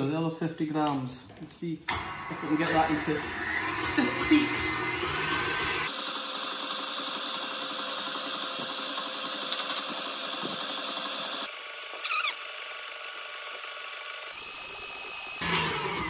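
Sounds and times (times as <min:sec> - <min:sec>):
electric stand mixer whisking: 0:01.9 - 0:16.0.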